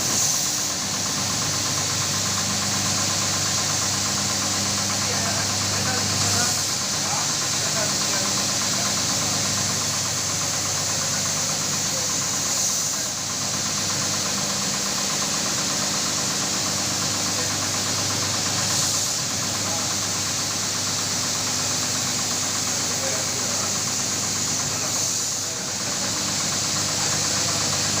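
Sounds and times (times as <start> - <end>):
carpet washing machine running: 0.0 - 28.0.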